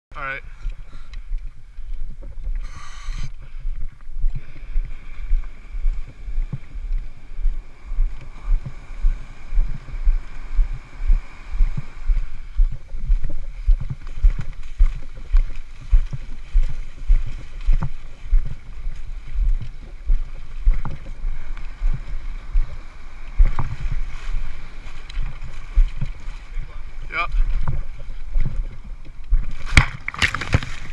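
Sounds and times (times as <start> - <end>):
low thumps: 1.3 - 30.7
seawater sloshing and splashing: 4.9 - 30.9.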